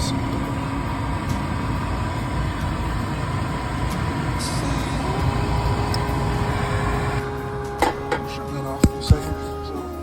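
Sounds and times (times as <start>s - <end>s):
steady tone: 0.0s - 8.2s
gas furnace humming: 0.0s - 10.0s.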